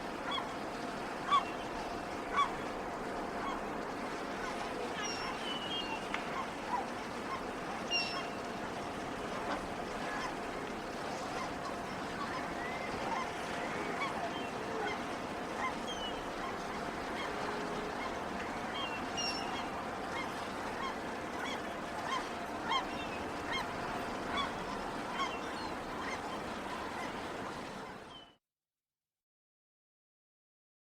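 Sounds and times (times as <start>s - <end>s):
harbour background din: 0.0s - 28.2s
gulls calling: 0.1s - 28.3s.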